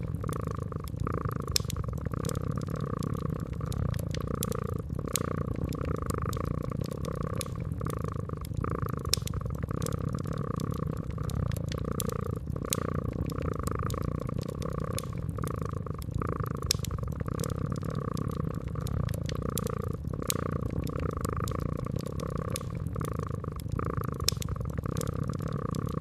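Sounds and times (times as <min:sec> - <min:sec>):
cat purring: 0:00.0 - 0:26.0
wood fire crackling: 0:00.0 - 0:26.0.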